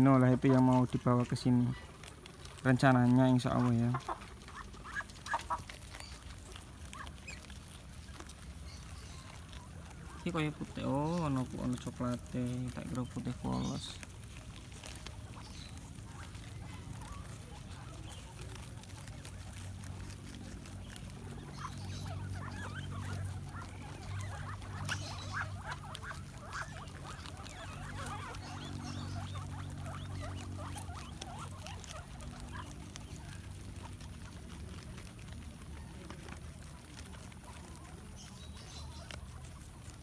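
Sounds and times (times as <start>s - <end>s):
guinea pigs chewing leaves: 0.0s - 40.0s.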